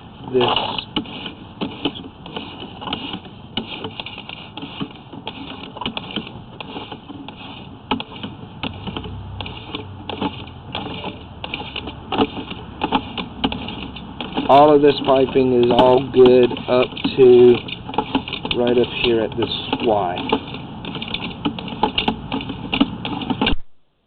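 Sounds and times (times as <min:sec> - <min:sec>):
cable clicking and knocking in pipe: 0:00.2 - 0:23.7.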